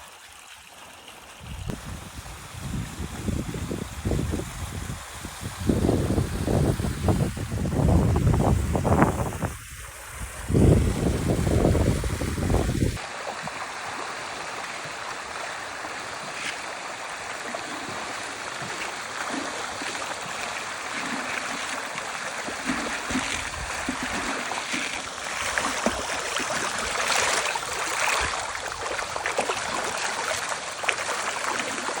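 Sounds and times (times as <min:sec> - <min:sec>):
water flowing and splashing: 0:00.0 - 0:32.0.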